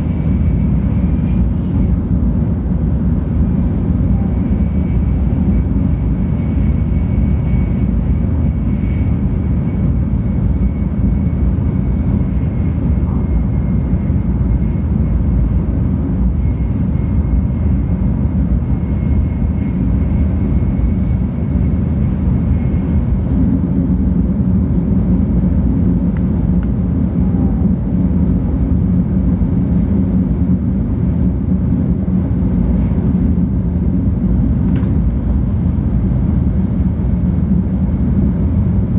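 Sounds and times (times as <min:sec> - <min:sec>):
faint high whine: 0:00.0 - 0:38.9
train rumble: 0:00.0 - 0:38.9.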